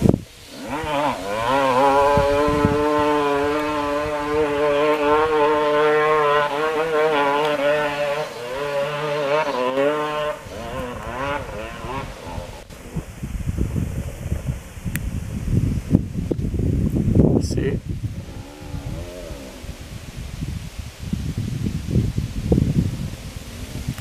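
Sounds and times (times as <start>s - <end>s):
dirt bike engine at high revs: 0.0s - 14.6s, 15.2s - 24.0s.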